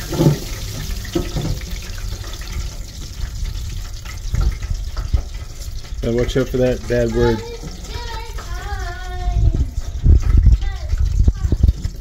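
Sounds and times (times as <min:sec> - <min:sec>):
hot oil sizzling in deep fryer: 0:00.0 - 0:12.0.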